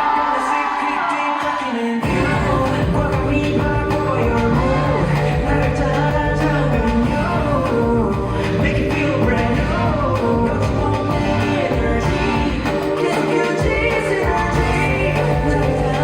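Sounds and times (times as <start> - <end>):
pop song with male vocal: 0.0 - 16.0.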